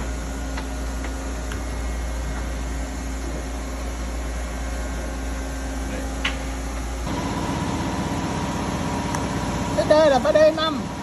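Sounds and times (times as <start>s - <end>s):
lathe humming at idle: 0.0s - 11.0s
machine running with high whine: 0.0s - 11.0s.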